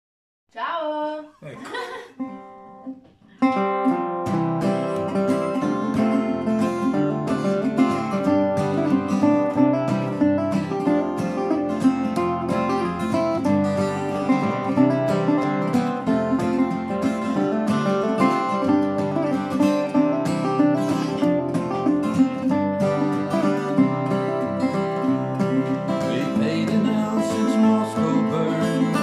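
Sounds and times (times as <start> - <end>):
acoustic guitar: 0.5 - 29.0
resonator guitar: 1.6 - 29.0.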